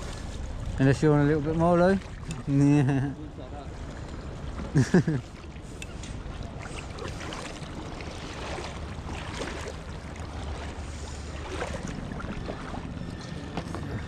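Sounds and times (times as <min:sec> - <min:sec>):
kayak paddles splashing: 0:00.0 - 0:14.0
low wind rumble: 0:00.0 - 0:14.0.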